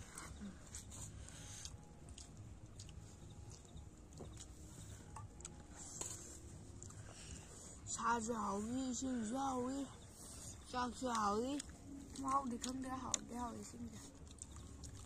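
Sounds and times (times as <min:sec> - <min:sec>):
low background hum: 0:00.0 - 0:15.0
people chewing: 0:00.0 - 0:15.0.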